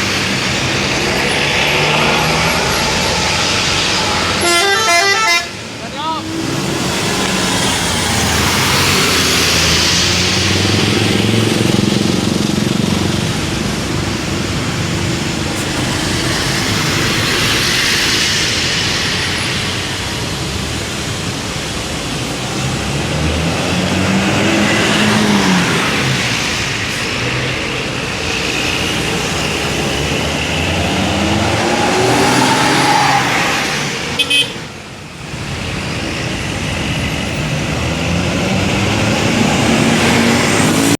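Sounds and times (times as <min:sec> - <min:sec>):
buses driving past: 0:00.0 - 0:40.9.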